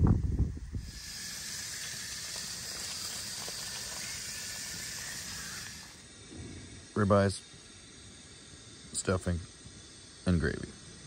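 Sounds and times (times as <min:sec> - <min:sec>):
camp stove hissing: 0:00.6 - 0:11.0.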